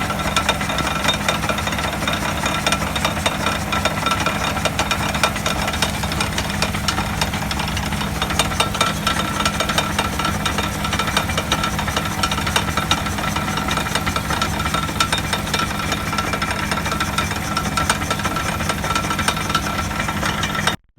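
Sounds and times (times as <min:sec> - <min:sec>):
rapid clicking of wheel bearing: 0:00.0 - 0:20.9.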